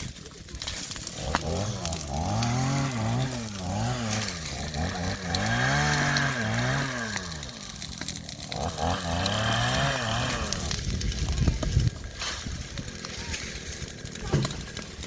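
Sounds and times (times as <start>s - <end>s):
chainsaw engine revving: 0.9s - 15.0s.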